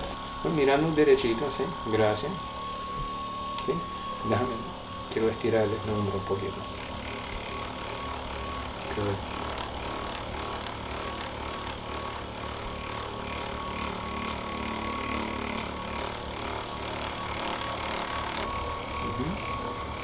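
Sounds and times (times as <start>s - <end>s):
motorized machine humming: 0.0s - 20.0s.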